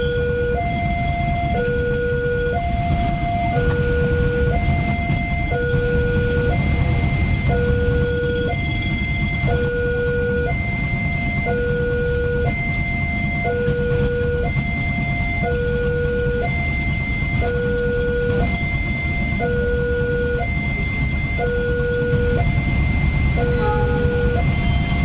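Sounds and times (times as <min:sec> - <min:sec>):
electronic two-tone warning alarm: 0:00.0 - 0:25.0
motorbike traffic rumble: 0:00.0 - 0:25.0.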